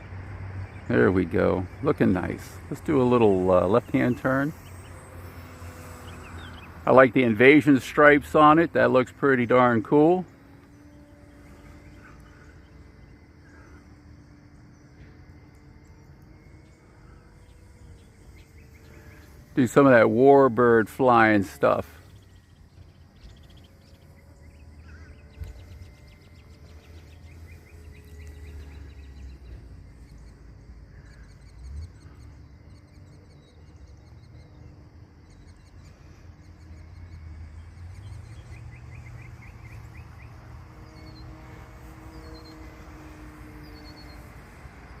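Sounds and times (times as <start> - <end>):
birds chirping in trills: 0.0 - 45.0
distant model plane motor hum: 0.0 - 45.0.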